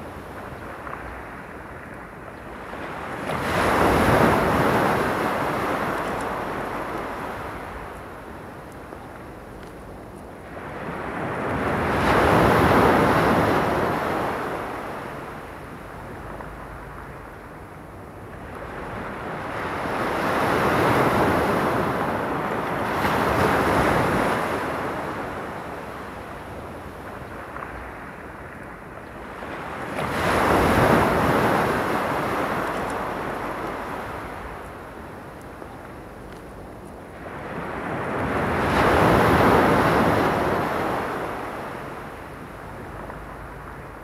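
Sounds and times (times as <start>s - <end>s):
waves breaking on cobble beach: 0.0s - 17.4s, 18.1s - 44.0s.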